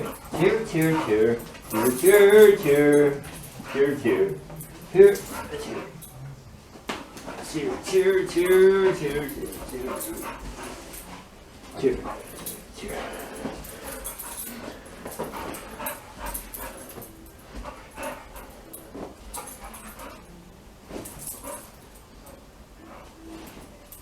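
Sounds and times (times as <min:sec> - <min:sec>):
scuffling noises: 0:00.0 - 0:24.0.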